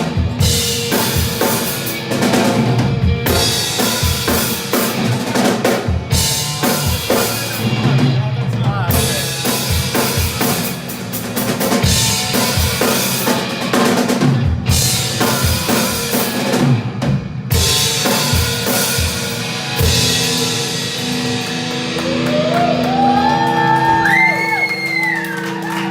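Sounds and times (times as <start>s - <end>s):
rock drum kit playing: 0.0s - 25.9s.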